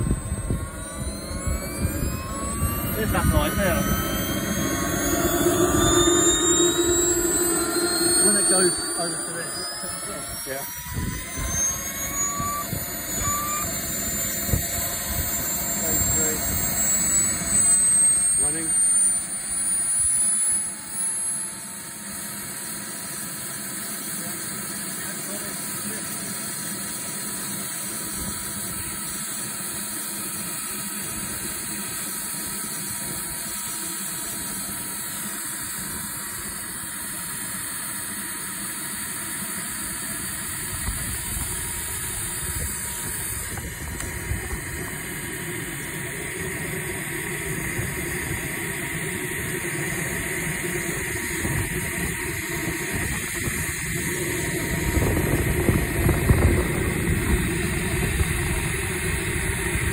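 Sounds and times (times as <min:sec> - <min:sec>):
model jet turbine idling: 0:00.0 - 0:59.9.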